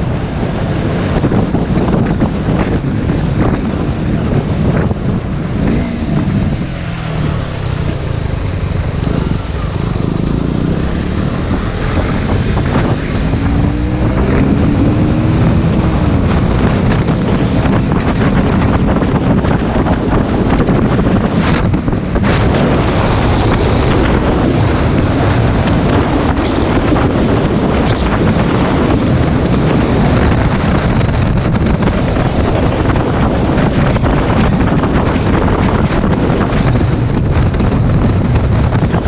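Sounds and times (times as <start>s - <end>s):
wind buffeting microphone: 0.0s - 39.0s
motorcycle engine accelerating: 0.1s - 39.0s.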